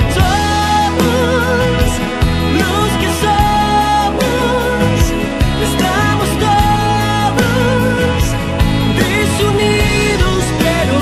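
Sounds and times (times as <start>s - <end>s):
ballad music: 0.0s - 11.0s.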